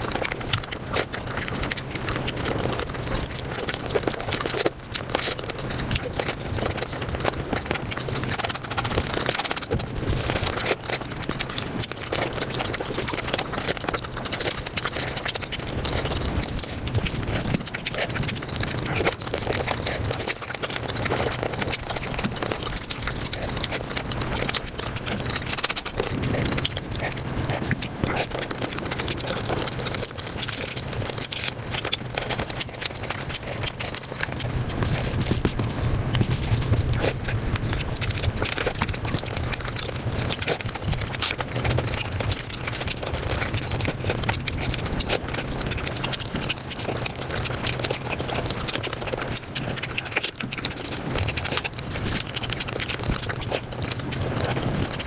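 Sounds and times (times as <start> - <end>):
fast chewing and mouth clicks: 0.0 - 55.0
steady low hum: 0.0 - 55.0.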